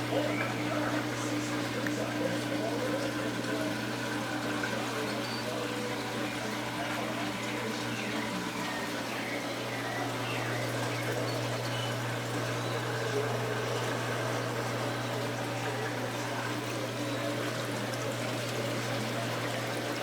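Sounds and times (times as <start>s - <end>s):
low pump hum: 0.0s - 20.0s
trickling water: 0.0s - 20.0s.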